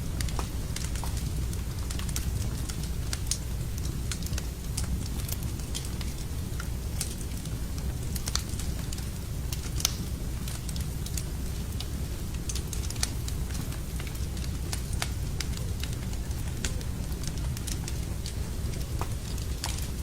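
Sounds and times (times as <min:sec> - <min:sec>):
low rumble of flame: 0:00.0 - 0:20.0
wood fire crackling and popping: 0:00.0 - 0:20.0.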